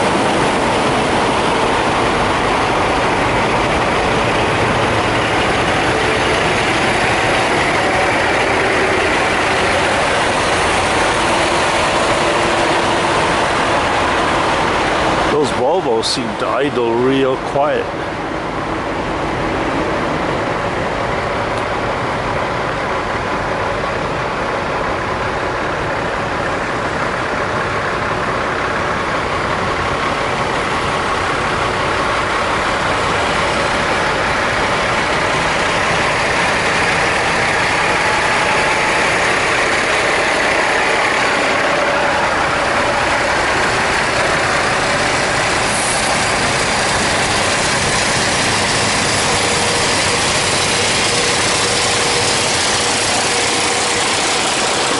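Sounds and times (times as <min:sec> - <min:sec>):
diesel truck engines idling: 0:00.0 - 0:54.9.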